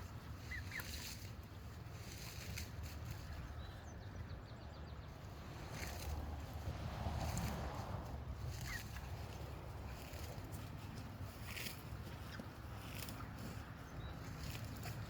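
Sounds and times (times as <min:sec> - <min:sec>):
wind rumble on microphone: 0:01.9 - 0:15.0.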